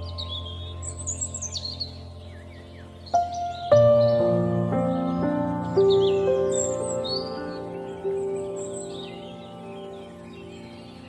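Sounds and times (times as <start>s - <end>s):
ambient music drone: 0.0s - 11.0s
songbirds chirping: 0.0s - 11.0s.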